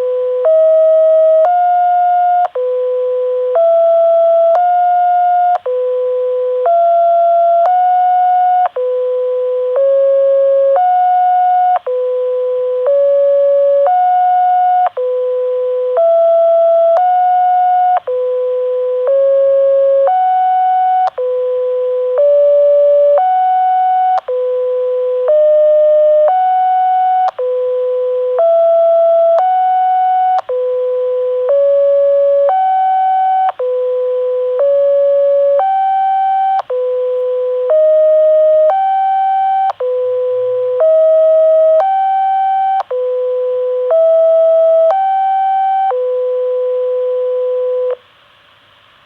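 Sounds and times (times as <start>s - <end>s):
alternating electronic tones: 0.0s - 48.0s.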